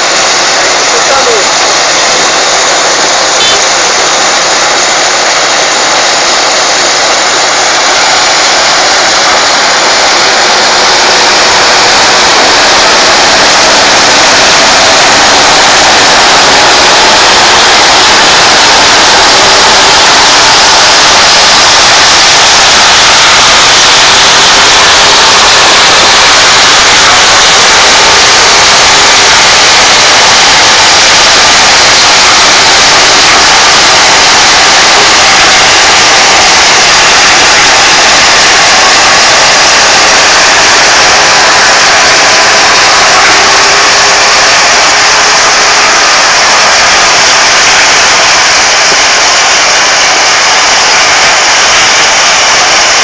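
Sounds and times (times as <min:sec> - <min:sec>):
harvester machine running: 0:00.0 - 0:53.0.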